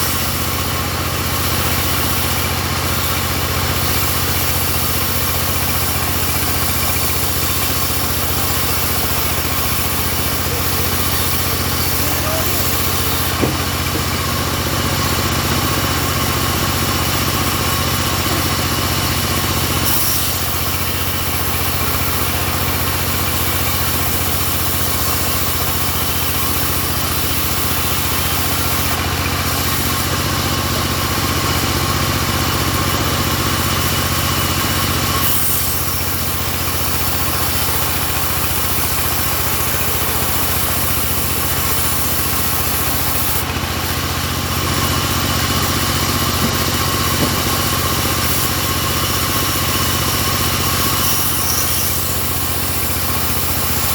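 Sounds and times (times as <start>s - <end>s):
sawmill engine running: 0.0s - 53.9s.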